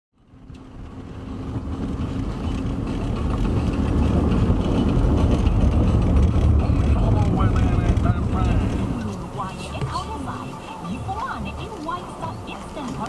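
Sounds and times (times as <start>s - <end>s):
car rumbling on dirt road: 0.2s - 13.0s.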